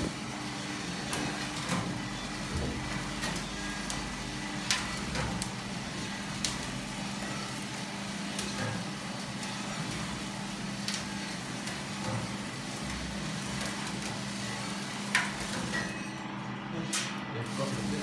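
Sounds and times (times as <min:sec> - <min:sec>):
coffee roaster motor humming: 0:00.0 - 0:18.0.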